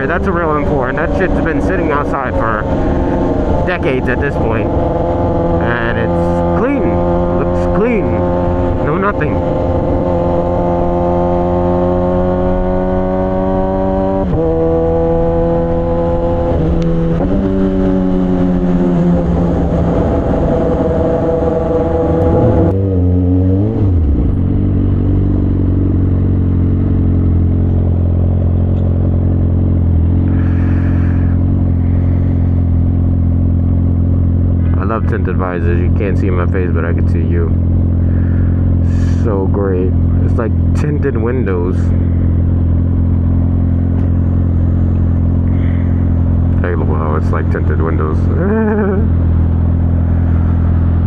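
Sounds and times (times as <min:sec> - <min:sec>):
gear changes: 0:00.0 - 0:51.0
motorcycle engine revving: 0:00.0 - 0:51.0.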